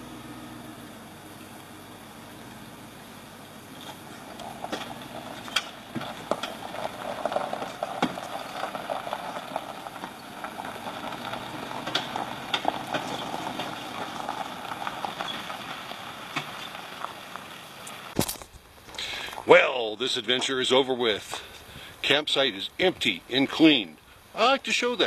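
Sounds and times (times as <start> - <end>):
low vehicle noise: 0.0 - 25.0
tyres crunching on gravel: 0.0 - 25.0.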